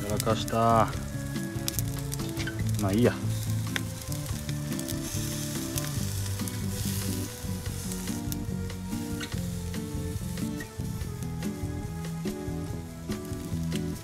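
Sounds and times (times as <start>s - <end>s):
small crackles: 0.0s - 11.2s
fish sizzling on a grill: 0.0s - 14.0s
quiet background music: 0.0s - 14.0s.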